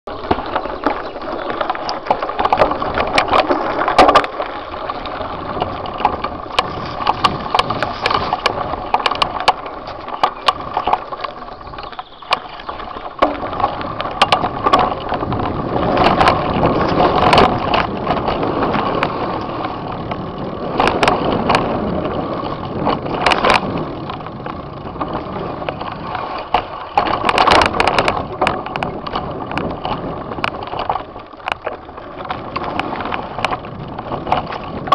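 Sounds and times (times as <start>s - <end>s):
bike rattling and clattering: 0.0s - 34.9s
tyres crunching on gravel: 0.1s - 34.9s.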